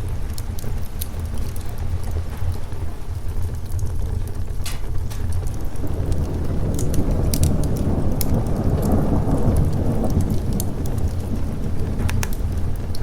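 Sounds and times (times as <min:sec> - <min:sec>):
sharp crackles: 0:00.0 - 0:13.0
steady rain: 0:00.0 - 0:13.0
thunder rolling: 0:00.0 - 0:13.0.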